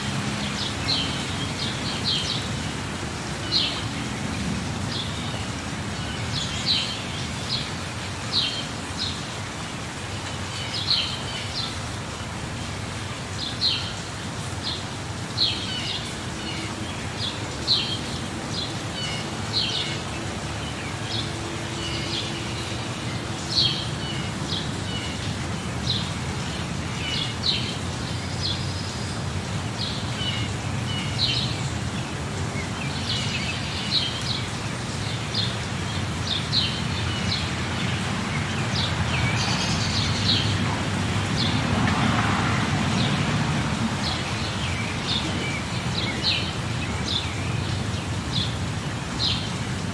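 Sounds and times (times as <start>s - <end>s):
small birds chirping: 0.0s - 41.9s, 42.8s - 49.9s
running water: 0.0s - 49.9s.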